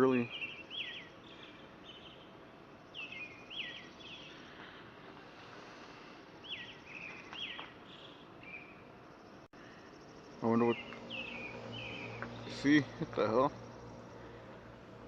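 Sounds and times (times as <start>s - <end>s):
faint steady hum: 0.0s - 15.0s
short chirping calls: 0.1s - 4.6s, 6.4s - 14.2s.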